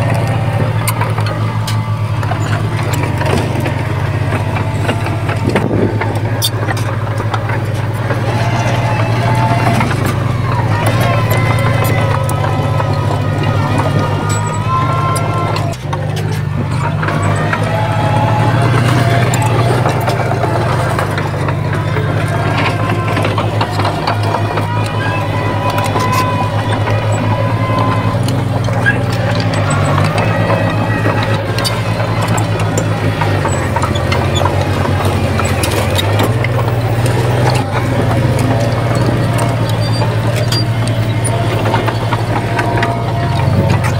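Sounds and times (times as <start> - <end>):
diesel engine running under work: 0.0 - 43.9
faint whining tone: 0.0 - 43.9
metallic clanks and clicks: 0.0 - 43.9.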